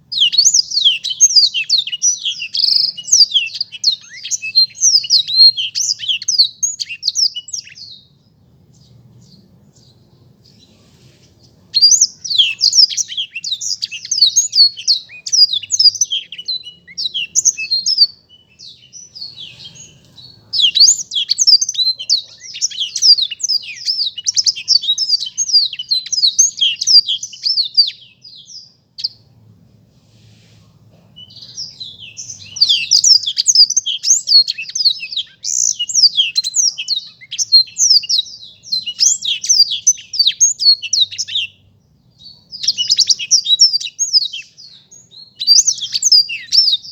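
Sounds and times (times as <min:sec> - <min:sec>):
canary singing twittering song: 0:00.0 - 0:29.6, 0:30.3 - 0:46.9.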